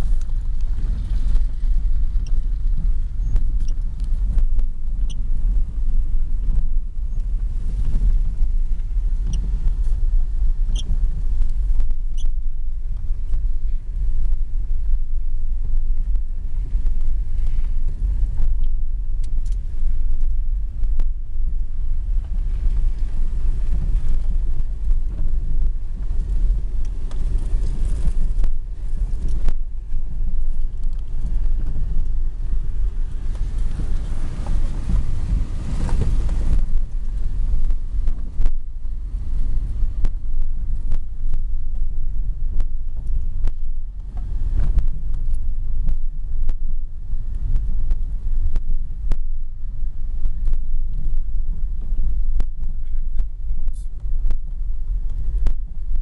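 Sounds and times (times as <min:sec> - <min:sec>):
car tyres on wet road: 0:00.0 - 0:56.0
rain ticking on windscreen: 0:00.0 - 0:56.0.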